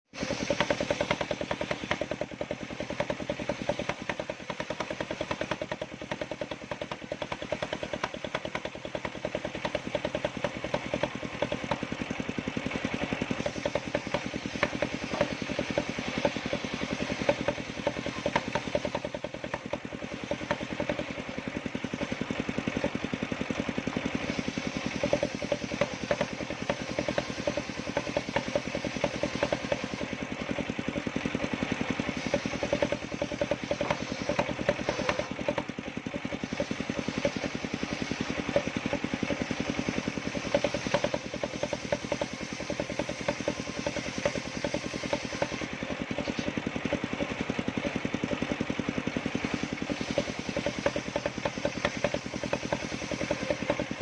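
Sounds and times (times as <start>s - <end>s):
sawmill engine running: 0.1s - 54.0s.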